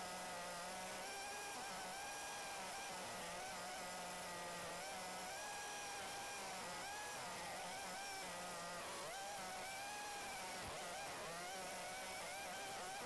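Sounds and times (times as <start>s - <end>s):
snowmobile engine buzzing whine: 0.0s - 13.0s.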